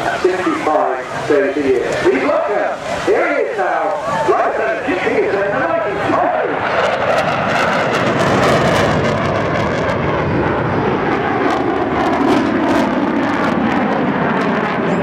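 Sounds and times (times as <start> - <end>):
jet aircraft engine noise: 0.0 - 15.0.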